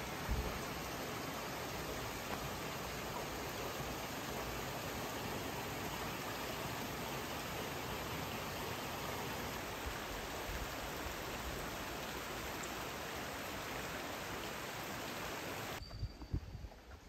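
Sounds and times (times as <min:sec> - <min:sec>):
rushing water: 0:00.0 - 0:15.8.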